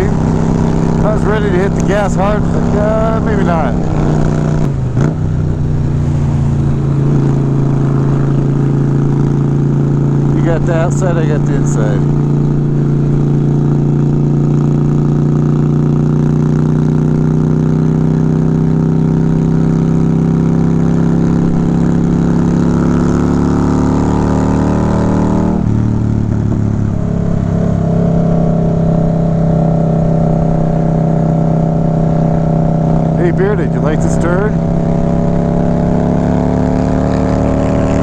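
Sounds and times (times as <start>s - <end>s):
motorcycle engine and exhaust: 0.0s - 38.0s.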